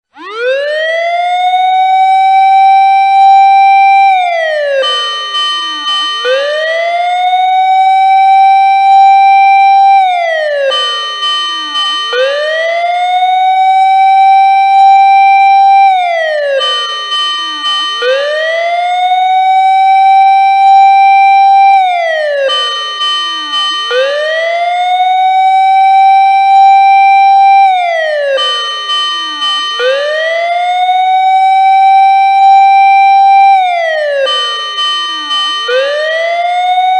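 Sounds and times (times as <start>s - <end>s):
siren wailing: 0.0s - 36.9s.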